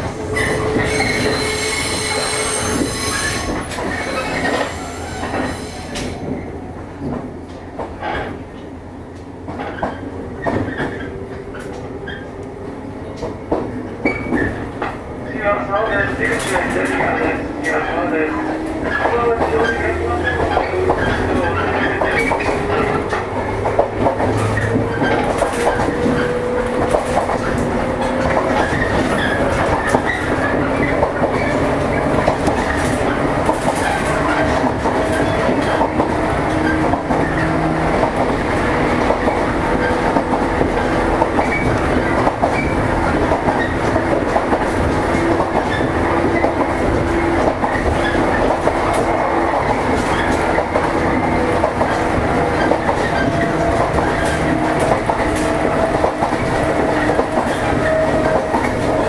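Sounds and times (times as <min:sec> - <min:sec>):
train rumble with motor whine: 0:00.0 - 0:59.0
wheels clacking over rail joints: 0:00.0 - 0:59.0.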